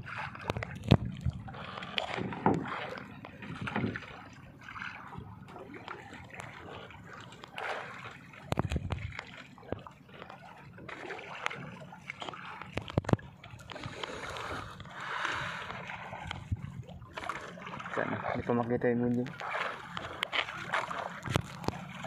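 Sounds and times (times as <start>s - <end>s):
water splashing against boat hull: 0.0s - 22.0s.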